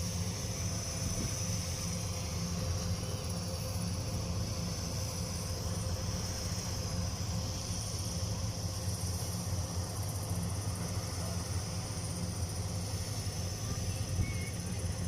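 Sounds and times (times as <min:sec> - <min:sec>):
diesel engine running: 0:00.0 - 0:15.0
high-pitched whine: 0:00.0 - 0:15.0.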